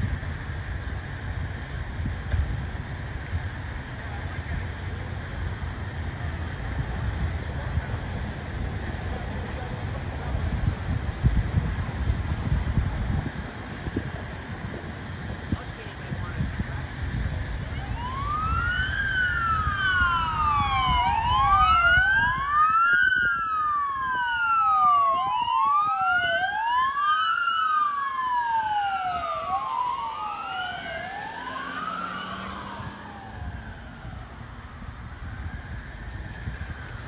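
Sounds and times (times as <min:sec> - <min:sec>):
emergency vehicle siren wailing: 0:04.2 - 0:37.0.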